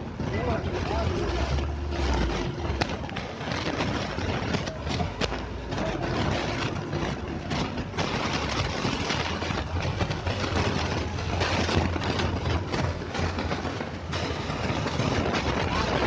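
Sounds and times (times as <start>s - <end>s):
noisy wash: 0.0s - 16.0s
vehicle engine humming: 0.0s - 16.0s.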